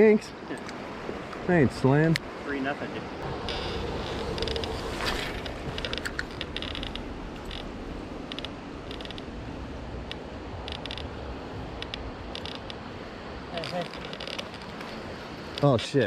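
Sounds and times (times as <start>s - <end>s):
wind and water hiss: 0.0s - 16.0s.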